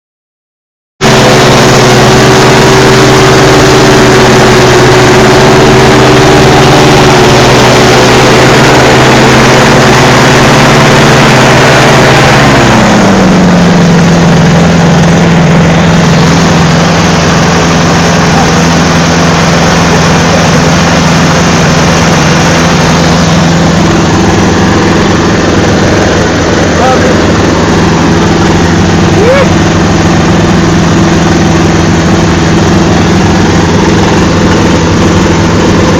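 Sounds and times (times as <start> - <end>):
propeller engine running: 1.0 - 35.9.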